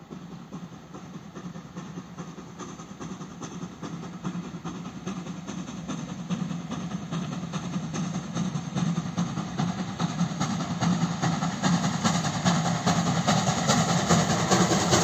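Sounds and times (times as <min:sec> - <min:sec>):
steam locomotive exhaust beats: 0:00.0 - 0:15.0
train rumble: 0:00.0 - 0:15.0.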